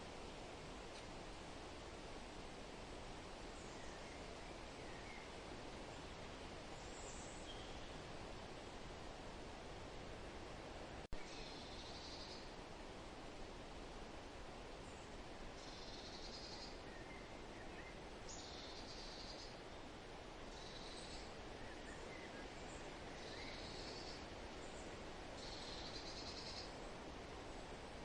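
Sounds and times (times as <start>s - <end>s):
wind rustle: 0.0s - 28.0s.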